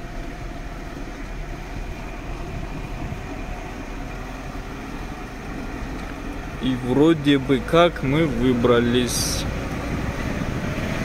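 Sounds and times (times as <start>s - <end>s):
car engine rumbling: 0.0s - 11.0s
low rattle over ruts: 0.0s - 11.0s.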